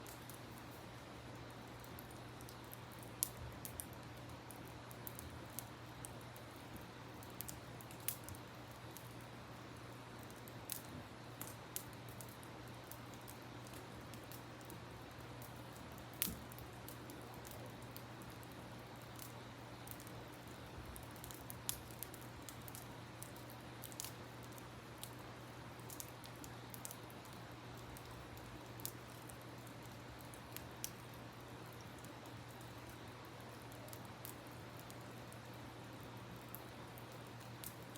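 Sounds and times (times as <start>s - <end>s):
campfire crackling and popping: 0.0s - 37.9s.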